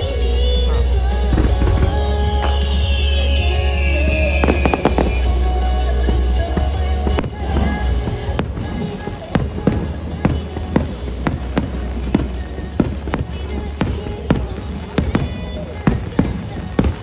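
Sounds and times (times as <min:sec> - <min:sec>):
music playing: 0:00.0 - 0:17.0
firework shells bursting: 0:01.2 - 0:17.0.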